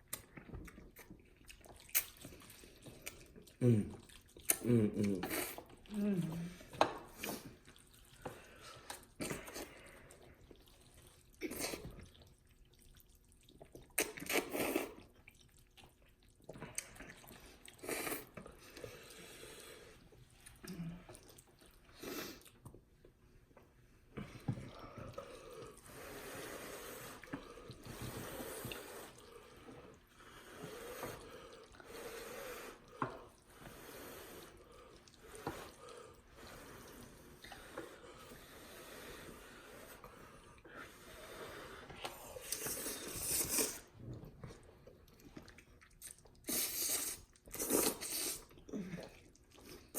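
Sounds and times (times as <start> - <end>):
slurping and chewing noodles: 0.0 - 49.9.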